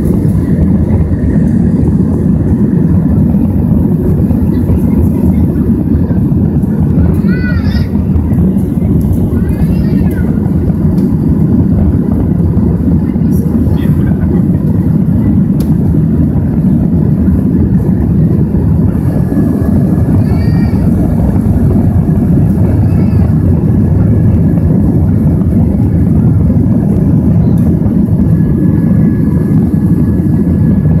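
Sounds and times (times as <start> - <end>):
jet engine cabin rumble: 0.0 - 31.0.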